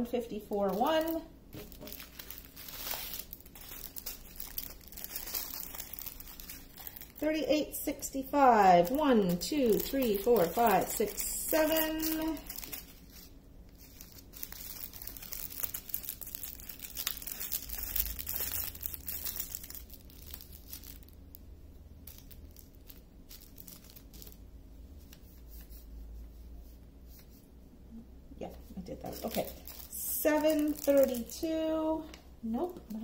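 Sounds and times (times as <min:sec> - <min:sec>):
plastic bags crinkling: 0:00.6 - 0:24.5, 0:29.0 - 0:31.9.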